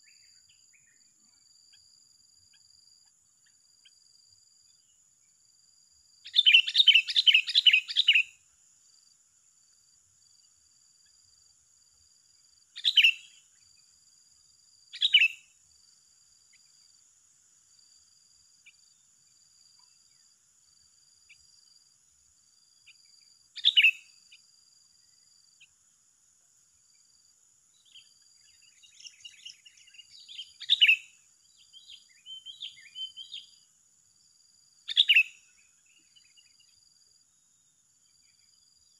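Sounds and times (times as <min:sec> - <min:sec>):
insect drone: 0:00.0 - 0:38.9.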